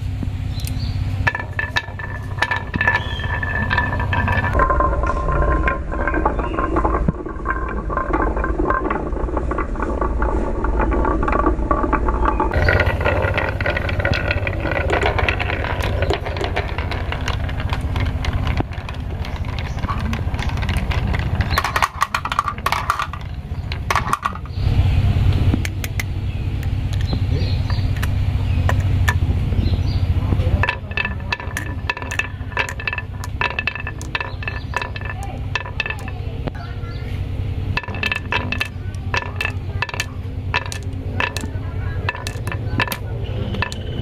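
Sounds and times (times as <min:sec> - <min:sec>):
marbles rolling on wooden track: 0:00.5 - 0:44.0
marbles clicking against wood: 0:00.6 - 0:37.0, 0:37.6 - 0:44.0.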